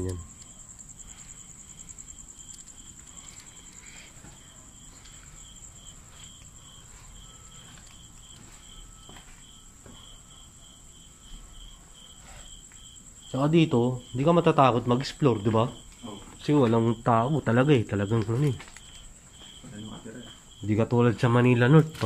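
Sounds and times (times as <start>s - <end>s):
insect high-pitched trill: 0.0s - 22.0s
lower insect chirp pulsing: 0.0s - 22.0s.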